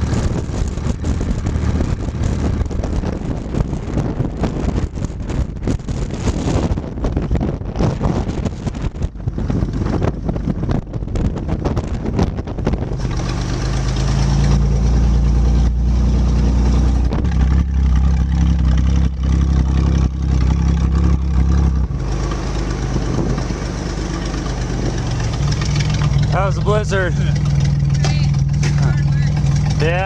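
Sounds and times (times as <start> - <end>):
vehicle engine running: 0.0 - 30.0
wind rumbling on microphone: 0.0 - 30.0.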